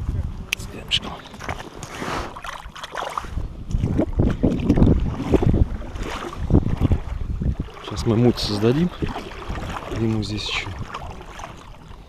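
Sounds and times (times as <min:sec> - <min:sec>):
wind on microphone: 0:00.0 - 0:12.0
shallow water splashing: 0:00.4 - 0:12.0.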